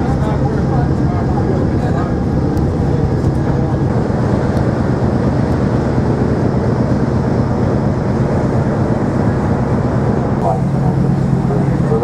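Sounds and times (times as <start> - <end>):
ferry engines droning: 0.0 - 12.0.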